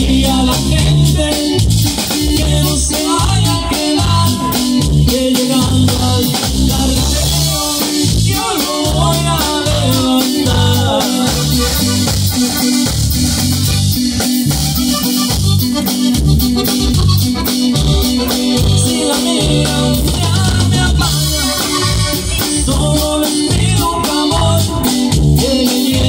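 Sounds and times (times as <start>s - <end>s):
bass: 0.0s - 26.0s
button accordion: 0.0s - 26.0s
drum kit: 0.0s - 26.0s.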